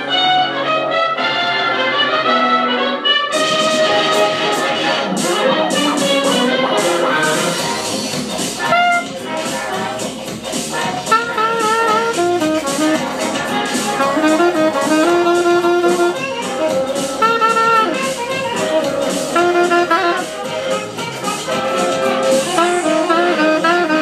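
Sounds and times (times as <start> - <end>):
saxophone melody: 0.0 - 24.0
backing track with steady beat: 3.3 - 24.0.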